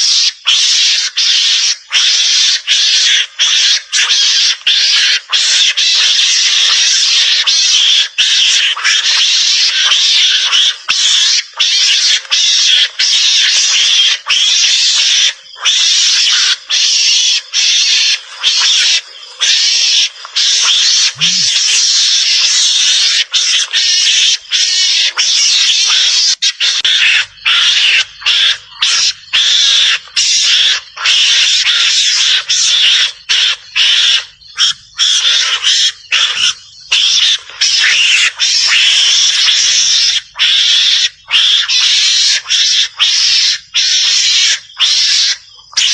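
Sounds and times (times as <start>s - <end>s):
mongoose chattering: 0.0s - 45.9s.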